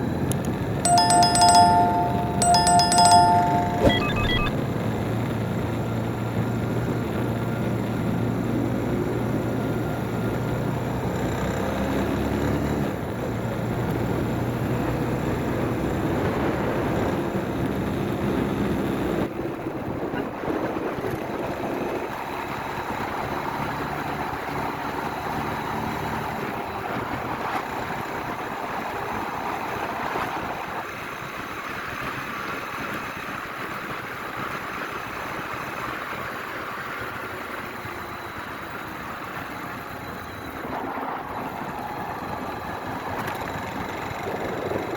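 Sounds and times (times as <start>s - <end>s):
road and wind noise: 5.3s - 44.9s.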